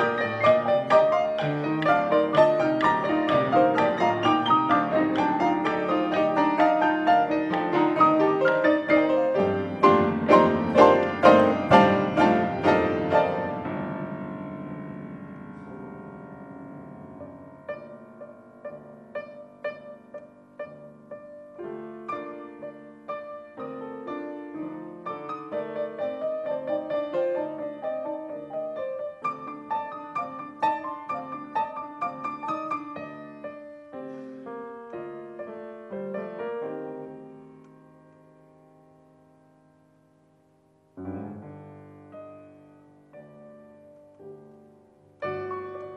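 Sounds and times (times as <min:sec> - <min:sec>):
scattered piano notes: 0:00.0 - 0:39.6, 0:40.9 - 0:45.9
loud piano chords: 0:00.0 - 0:45.9.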